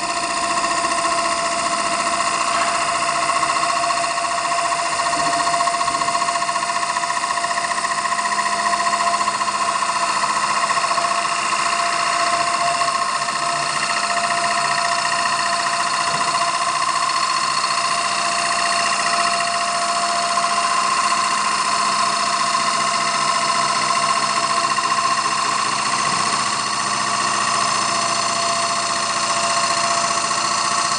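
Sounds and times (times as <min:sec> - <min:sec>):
wood lathe machine whine: 0:00.0 - 0:30.9.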